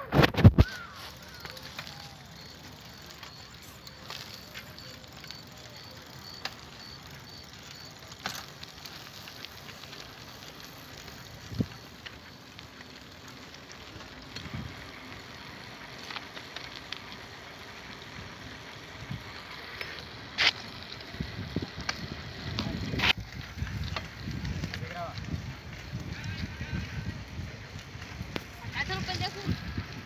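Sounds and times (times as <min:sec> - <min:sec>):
bicycle clicks and knocks: 0:00.1 - 0:26.4.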